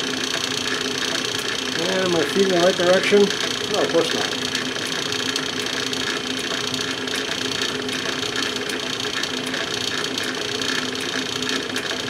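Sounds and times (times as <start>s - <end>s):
metal shaper running: 0.0s - 12.0s.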